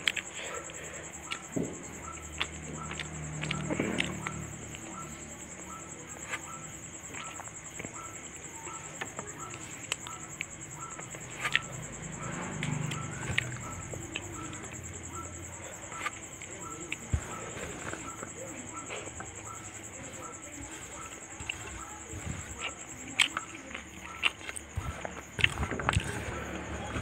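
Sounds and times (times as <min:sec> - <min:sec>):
chewing: 0:00.0 - 0:27.0
high insect trill: 0:00.0 - 0:27.0
faint chirp: 0:00.3 - 0:27.0.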